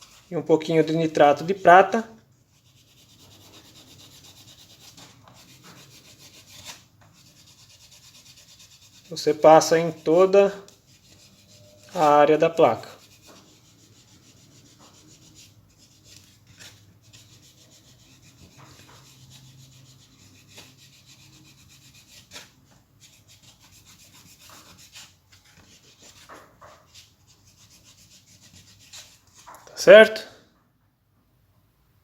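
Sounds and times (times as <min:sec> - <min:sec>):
cotton wad rubbing circuit board: 0:02.5 - 0:29.5.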